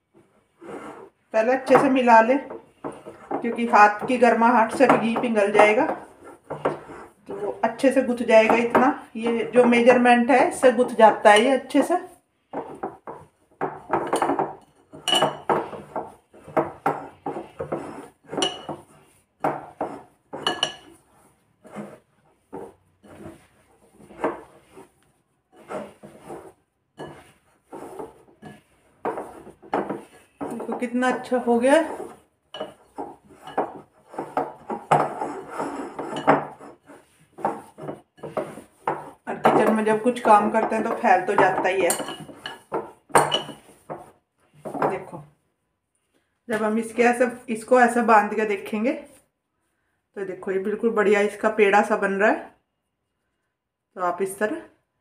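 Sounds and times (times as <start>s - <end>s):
hands kneading dough in glass bowl: 0.1s - 45.2s.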